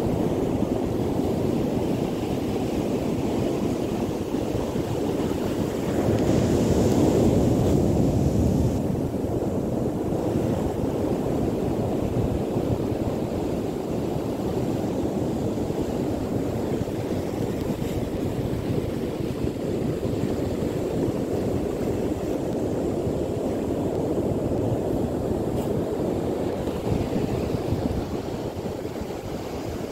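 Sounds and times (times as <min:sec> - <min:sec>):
surf washing: 0:00.0 - 0:29.9
wind on microphone: 0:00.0 - 0:29.9.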